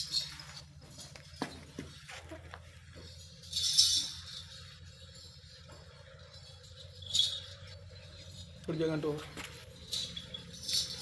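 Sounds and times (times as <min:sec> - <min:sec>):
metal anklets jingling: 0:00.0 - 0:11.0
steady low hum: 0:00.0 - 0:11.0.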